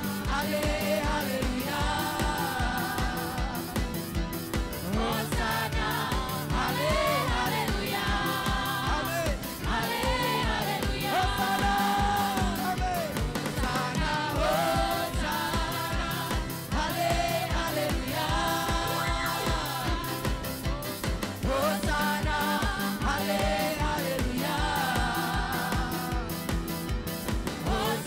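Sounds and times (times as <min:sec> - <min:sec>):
group singing: 0:00.0 - 0:28.0
guitar: 0:00.0 - 0:28.0
keyboard: 0:00.0 - 0:28.0
steady beat and bass line: 0:00.0 - 0:28.0.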